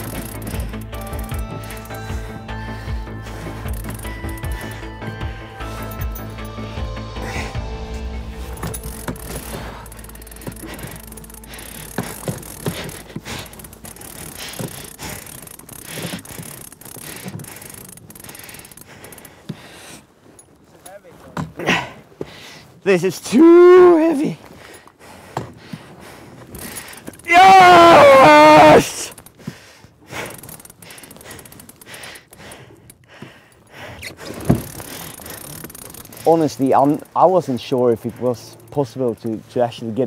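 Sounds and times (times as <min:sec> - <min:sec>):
man breathing heavily: 0:00.0 - 0:20.7, 0:21.5 - 0:22.8, 0:24.3 - 0:27.4, 0:28.8 - 0:37.2
fishing reel cranking: 0:00.0 - 0:21.1, 0:22.7 - 0:40.0.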